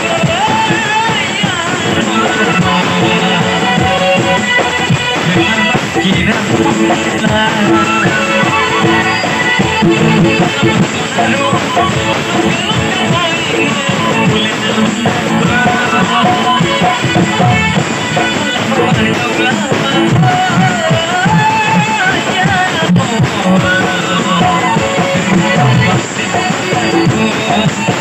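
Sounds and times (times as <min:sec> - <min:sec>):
live band music: 0:00.0 - 0:28.0
man singing into a microphone: 0:00.0 - 0:28.0.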